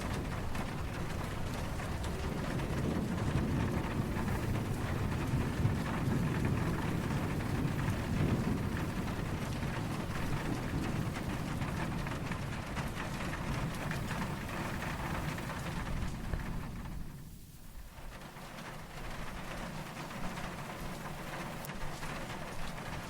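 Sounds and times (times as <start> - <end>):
distant thunder rumble: 0.0 - 23.0
steady rain falling: 0.0 - 23.0.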